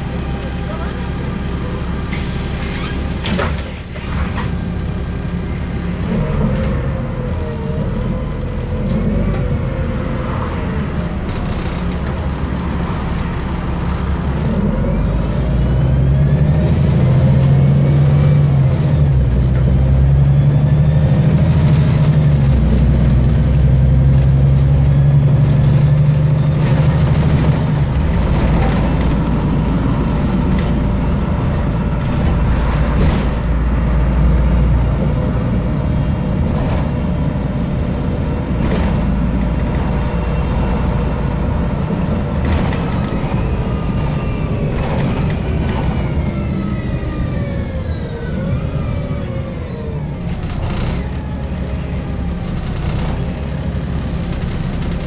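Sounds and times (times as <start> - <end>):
bus diesel engine running: 0.0 - 55.0
gearbox whines: 5.4 - 55.0.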